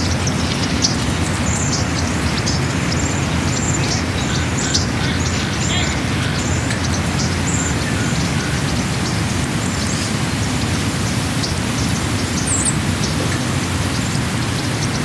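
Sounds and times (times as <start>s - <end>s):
low rushing noise: 0.0s - 15.0s.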